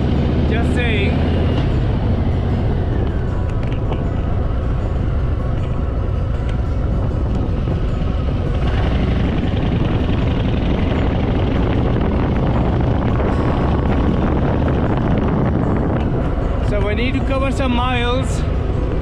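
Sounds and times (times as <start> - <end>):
motorcycle engine running: 0.0 - 19.0
wind rushing: 0.0 - 19.0.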